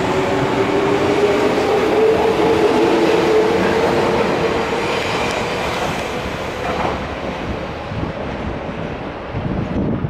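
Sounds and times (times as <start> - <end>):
train wheels on rail: 0.0 - 10.0.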